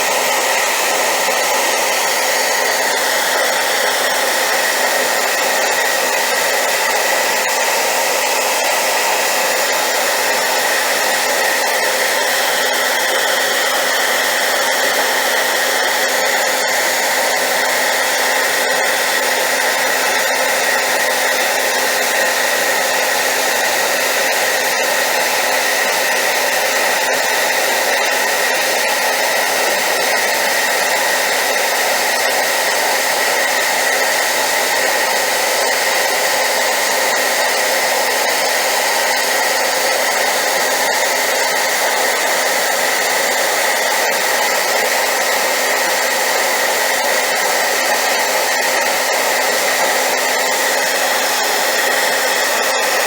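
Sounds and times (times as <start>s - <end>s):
hairdryer blowing: 0.0s - 53.0s.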